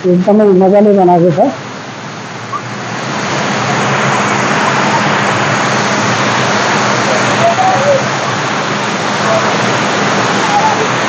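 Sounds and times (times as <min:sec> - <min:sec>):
water pouring down waterfall: 0:00.2 - 0:11.0.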